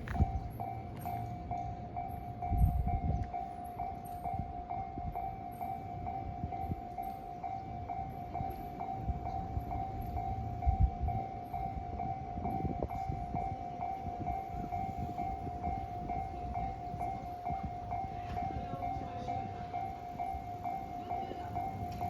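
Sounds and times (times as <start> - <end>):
level crossing bell ringing: 0.0 - 22.0
train rumbling past: 0.0 - 22.0.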